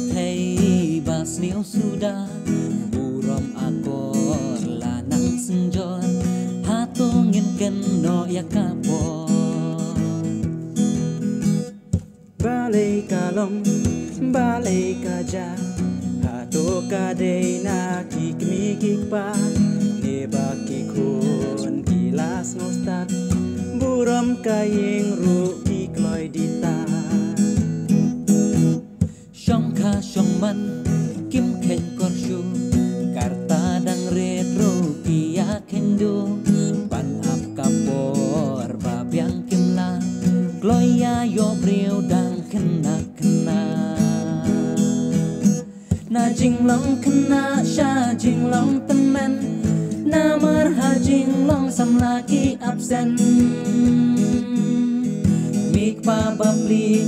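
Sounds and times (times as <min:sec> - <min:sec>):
men singing: 0:00.0 - 0:10.2, 0:12.4 - 0:27.6, 0:29.4 - 0:45.3, 0:46.0 - 0:57.0
acoustic guitar strumming: 0:00.0 - 0:57.0.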